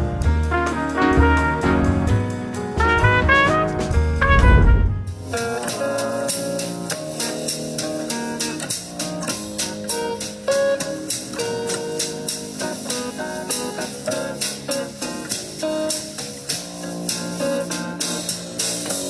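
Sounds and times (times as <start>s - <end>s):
drum kit beat: 0.0s - 19.0s
plucked blues guitar: 0.0s - 19.0s.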